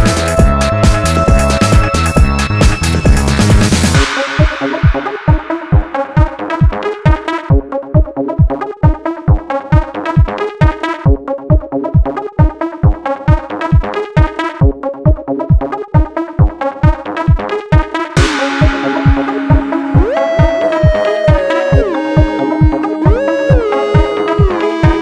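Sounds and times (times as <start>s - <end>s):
driving kick-drum beat: 0.0s - 25.0s
electronic dance music: 0.0s - 25.0s
layered synthesizers: 0.0s - 25.0s.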